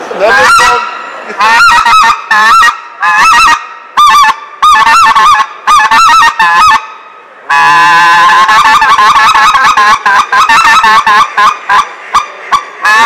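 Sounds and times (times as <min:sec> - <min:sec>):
goose call honks and clucks: 0:00.2 - 0:13.0.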